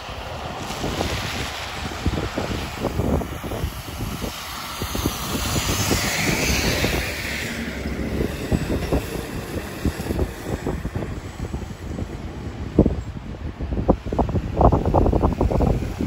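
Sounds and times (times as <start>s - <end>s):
bus passing: 0.0s - 16.0s
wind buffeting microphone: 0.0s - 16.0s.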